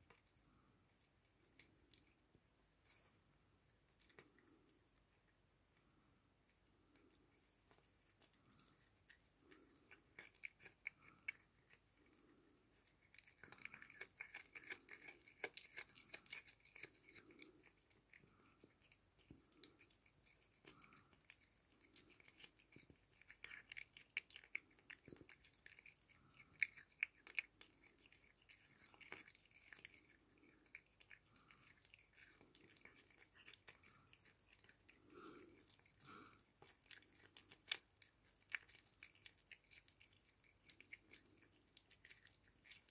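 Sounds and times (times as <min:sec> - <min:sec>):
cat chewing crunching: 0:00.0 - 0:42.9.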